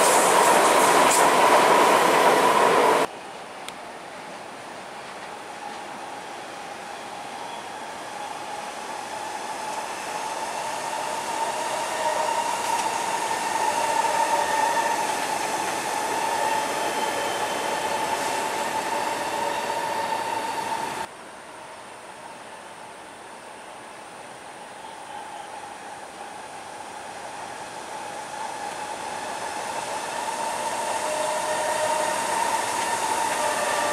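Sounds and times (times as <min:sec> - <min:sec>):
electric train passing: 0:00.0 - 0:03.1, 0:04.3 - 0:22.9, 0:24.4 - 0:33.9.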